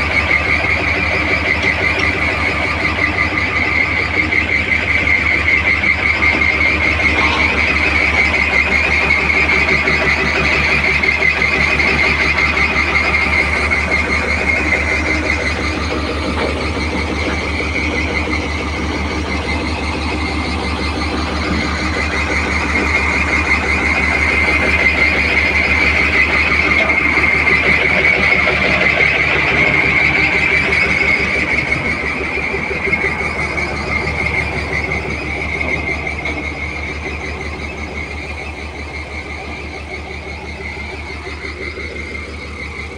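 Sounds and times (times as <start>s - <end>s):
diesel engine idling: 0.0s - 42.9s
high steady whine: 0.0s - 42.9s.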